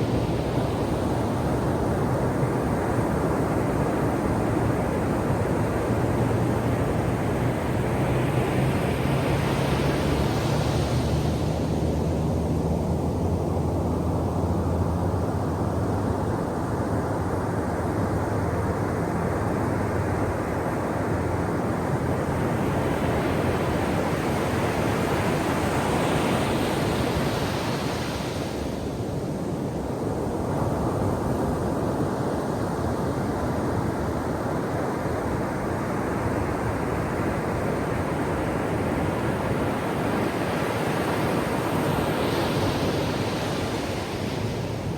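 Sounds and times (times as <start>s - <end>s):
ocean surf washing on shore: 0.0s - 44.9s.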